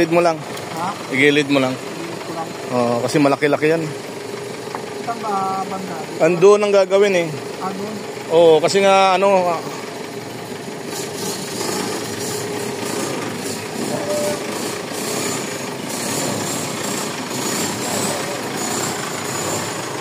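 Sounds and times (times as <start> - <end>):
diesel engine idling with clatter: 0.0 - 20.0.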